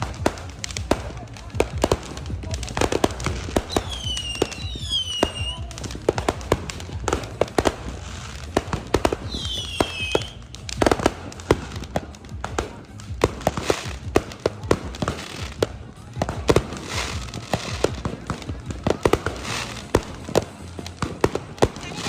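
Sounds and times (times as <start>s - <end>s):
fireworks bangs and pops: 0.0s - 22.0s
whistling fireworks shrieking: 0.0s - 22.0s.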